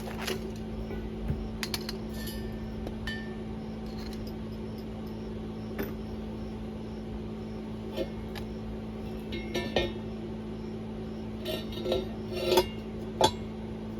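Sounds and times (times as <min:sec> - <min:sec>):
electrical hum: 0:00.0 - 0:13.9.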